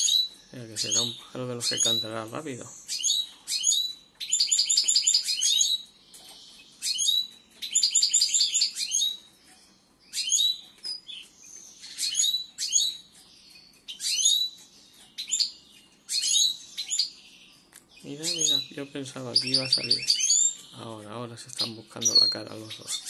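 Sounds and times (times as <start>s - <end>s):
goldfinches twittering: 0.0s - 23.0s.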